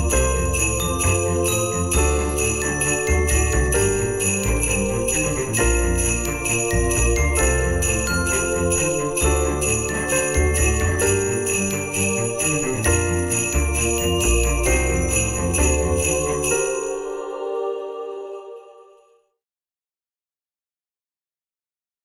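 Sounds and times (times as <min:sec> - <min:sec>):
festive music with jingle bells: 0:00.0 - 0:19.0.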